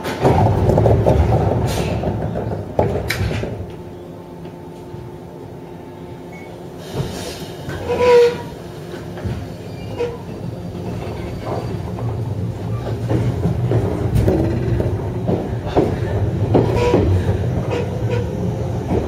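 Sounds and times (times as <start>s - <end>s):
train interior hum: 0.0s - 19.0s
train running noise: 0.0s - 19.0s.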